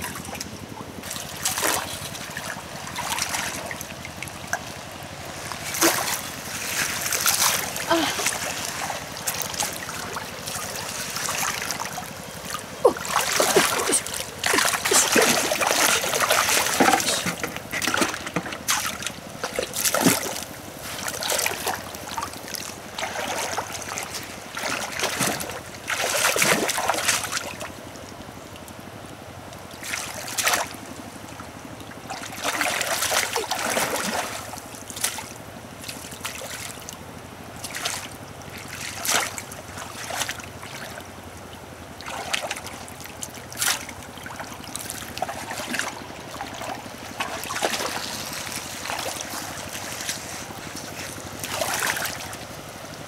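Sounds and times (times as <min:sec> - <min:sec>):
muddy water splashing: 0:00.0 - 0:28.7, 0:29.6 - 0:53.0.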